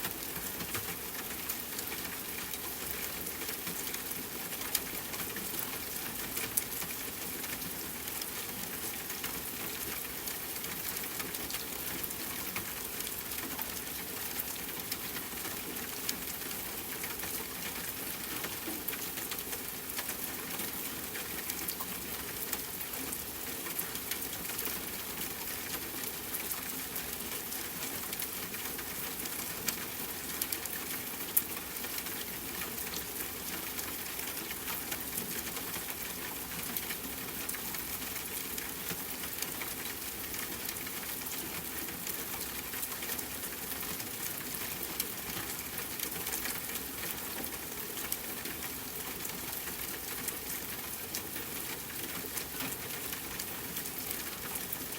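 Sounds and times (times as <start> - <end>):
rain on a tent: 0.0 - 54.9.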